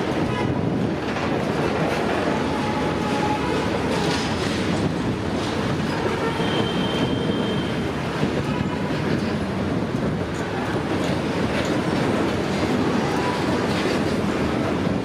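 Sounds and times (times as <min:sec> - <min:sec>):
diesel locomotives rumbling: 0:00.0 - 0:15.0
wheel and wagon clatter: 0:00.0 - 0:15.0.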